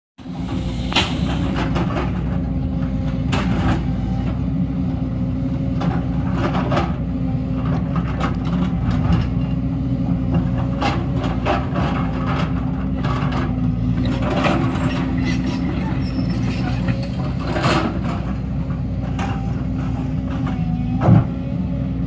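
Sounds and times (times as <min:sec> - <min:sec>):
excavator diesel engine running: 0:00.2 - 0:22.0.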